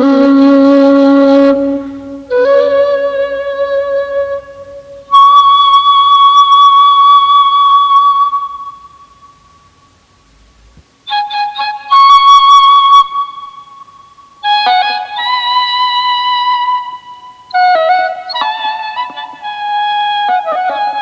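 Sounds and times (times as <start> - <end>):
flute-like wind instrument: 0.0 - 9.5, 11.1 - 21.0.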